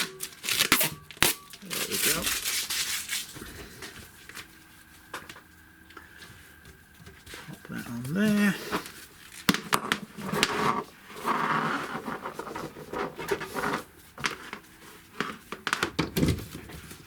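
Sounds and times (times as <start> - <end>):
rustling: 0.0 - 15.8.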